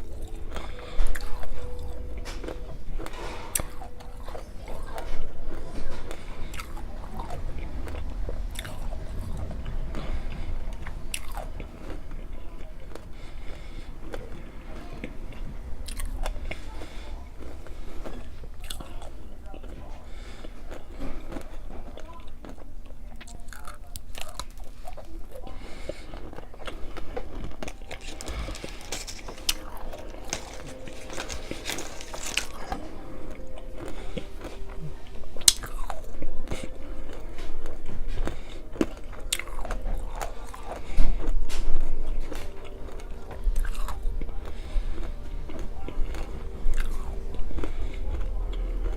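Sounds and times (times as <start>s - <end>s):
crunchy candy being chewed: 0.0s - 48.9s.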